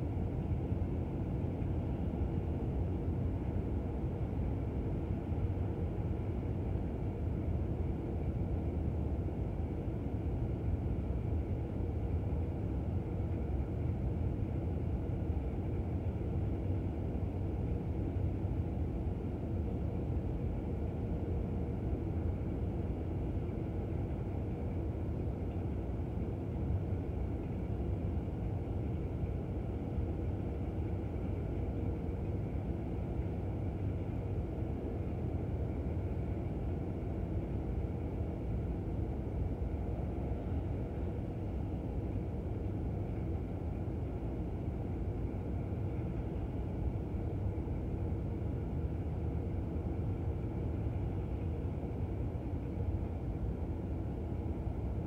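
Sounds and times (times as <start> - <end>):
faint steady whine: 0.0 - 55.0.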